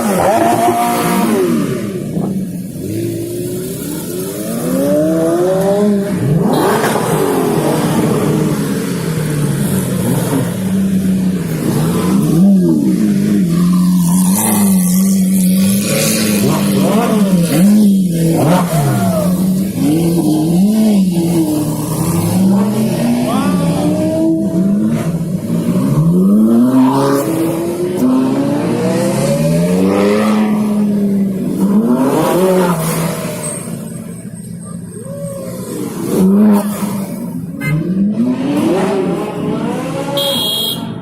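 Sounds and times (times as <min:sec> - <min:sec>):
car engines idling and revving: 0:00.0 - 0:41.0.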